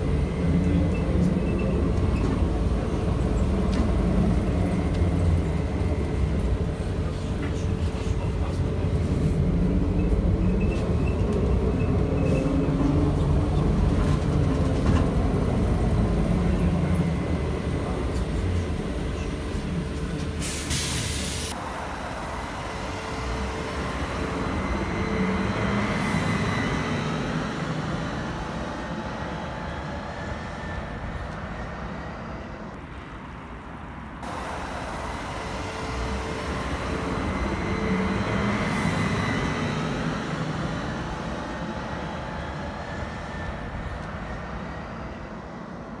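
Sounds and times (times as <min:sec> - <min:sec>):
road noise: 0:00.0 - 0:46.0
trolleybus electric drive hum: 0:00.0 - 0:46.0.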